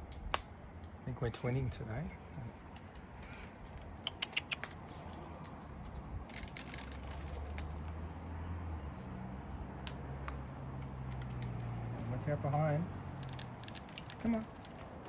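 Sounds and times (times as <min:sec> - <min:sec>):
cockatoos feeding clicks and taps: 0:00.0 - 0:08.3, 0:09.8 - 0:12.3, 0:12.9 - 0:15.0
small birds chirping: 0:00.0 - 0:15.0.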